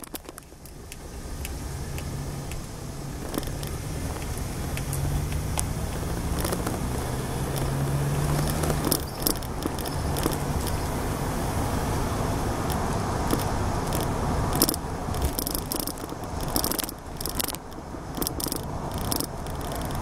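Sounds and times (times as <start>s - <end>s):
short clicks and rattles: 0.0s - 1.0s, 3.2s - 10.9s, 12.6s - 20.0s
car engine hum: 0.0s - 20.0s
road noise: 0.0s - 20.0s.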